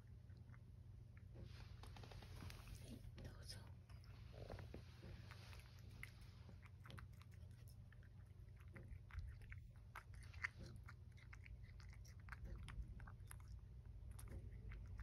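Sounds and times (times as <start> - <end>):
cat chewing: 0.0 - 15.0.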